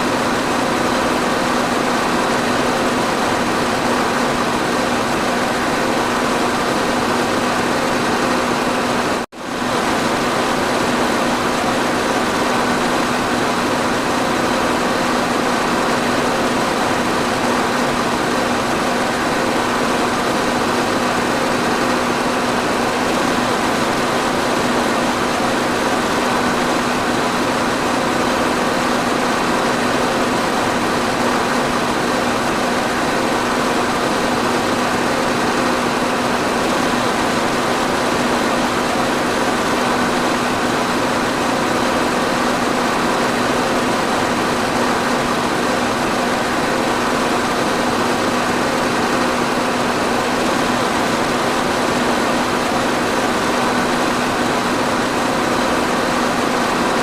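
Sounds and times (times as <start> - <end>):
electric fan running: 0.0 - 57.0.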